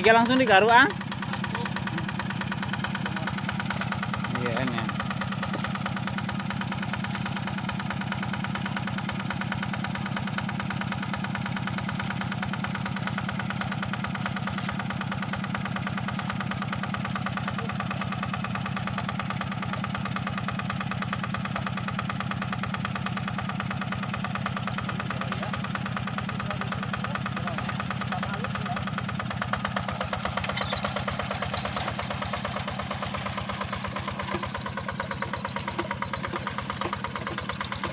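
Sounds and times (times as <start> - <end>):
diesel engine running steadily: 0.0 - 37.9.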